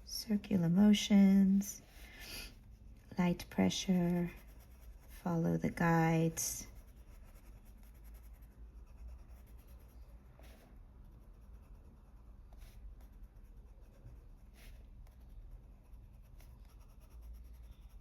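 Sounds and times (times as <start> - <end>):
low room hum: 0.0 - 18.0
pencil scratching on paper: 1.8 - 18.0.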